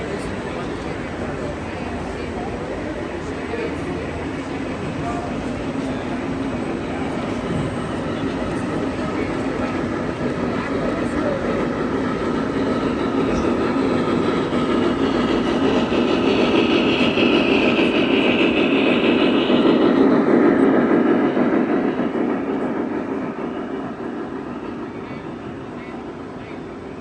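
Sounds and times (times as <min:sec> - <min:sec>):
model train wheels rumbling: 0:00.0 - 0:27.0.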